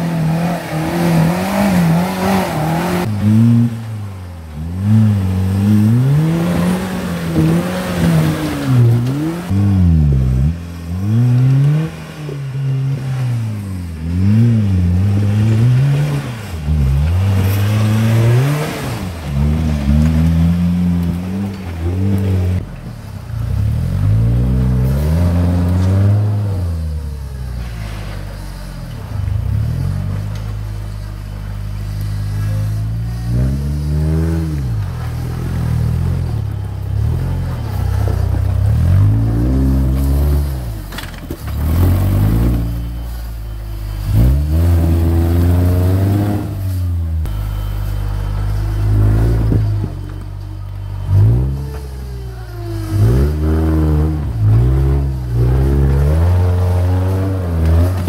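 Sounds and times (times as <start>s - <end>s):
off-road engines revving: 0.0s - 58.0s.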